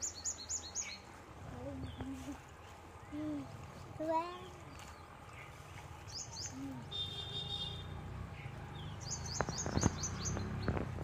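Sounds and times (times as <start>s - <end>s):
small bird chirping: 0.0s - 3.5s, 4.3s - 11.0s.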